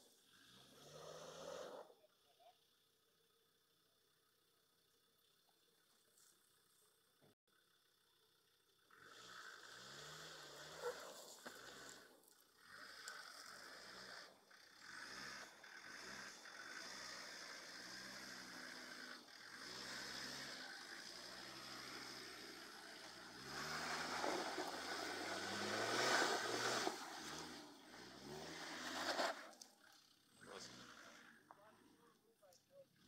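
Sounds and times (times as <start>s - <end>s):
engine at low revs: 0.0s - 33.0s.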